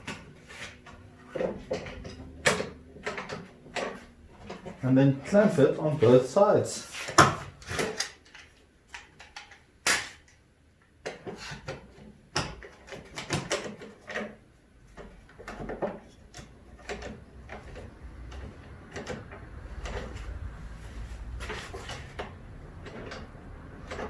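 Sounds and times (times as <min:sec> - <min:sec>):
clamps clicking and knocking: 0:00.0 - 0:04.8, 0:07.1 - 0:10.4, 0:11.0 - 0:20.5, 0:21.4 - 0:24.0.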